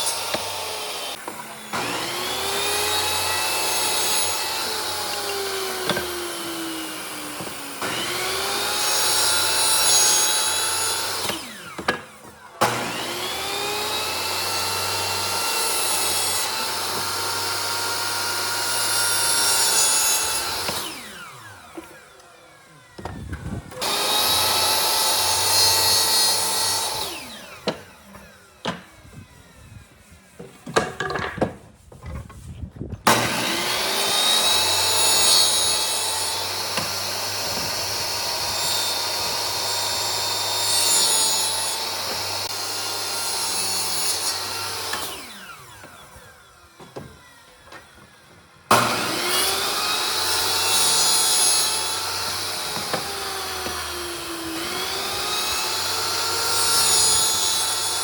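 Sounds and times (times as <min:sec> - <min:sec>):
electric power tool cutting wood: 0:00.0 - 0:30.4, 0:33.1 - 0:58.0.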